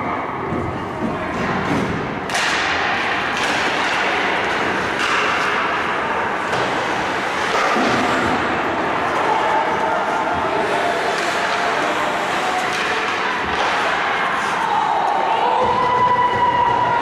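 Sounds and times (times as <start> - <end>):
ice rink noise: 0.0 - 17.0.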